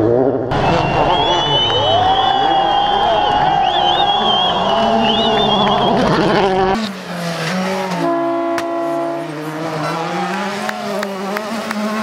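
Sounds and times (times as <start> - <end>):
rally car engines passing: 0.0 - 12.0.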